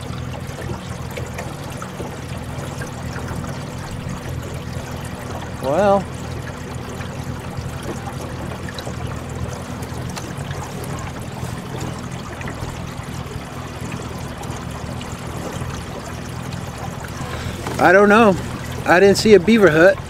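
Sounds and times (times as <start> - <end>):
steady low hum: 0.0 - 20.0
water trickling along boat hull: 0.0 - 20.0.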